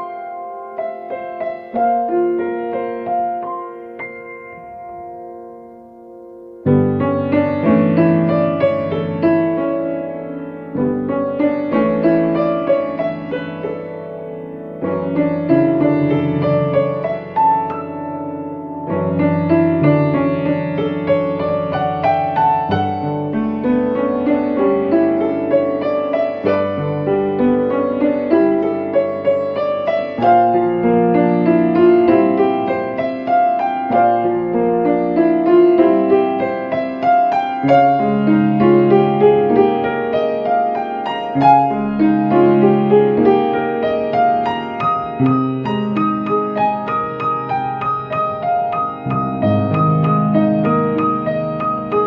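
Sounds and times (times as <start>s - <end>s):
slow piano piece: 0.0s - 52.0s.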